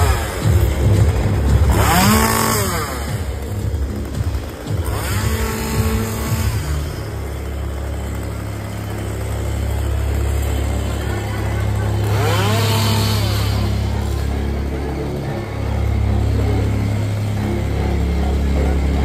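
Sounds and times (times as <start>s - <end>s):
low engine drone: 0.0s - 19.0s
motor revving: 0.0s - 19.0s.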